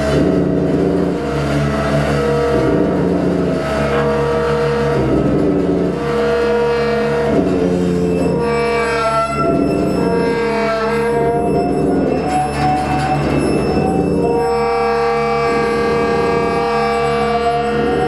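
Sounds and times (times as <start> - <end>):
ensemble playing held tones: 0.0 - 18.0
low drone: 0.0 - 18.0.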